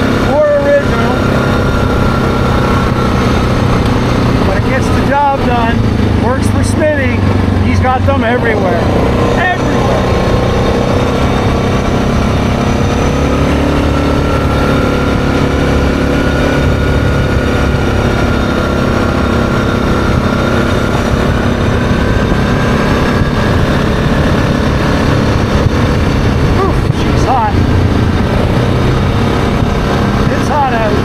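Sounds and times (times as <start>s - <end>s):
quad bike engine running: 0.0s - 31.0s.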